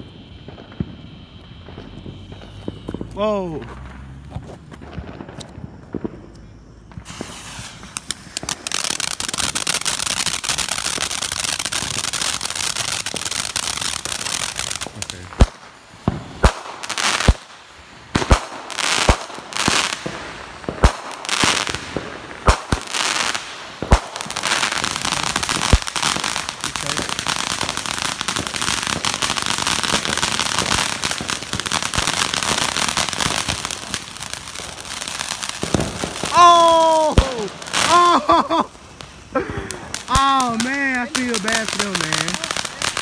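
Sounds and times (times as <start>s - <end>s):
fireworks bangs and pops: 0.0s - 43.0s
fireworks fountains crackling: 0.0s - 43.0s.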